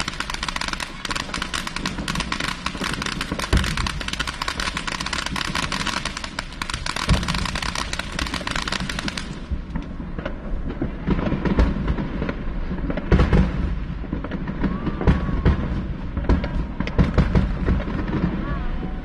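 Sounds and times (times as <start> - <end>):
fireworks bangs and crackles: 0.0 - 19.0
loud fireworks booms: 0.0 - 19.0.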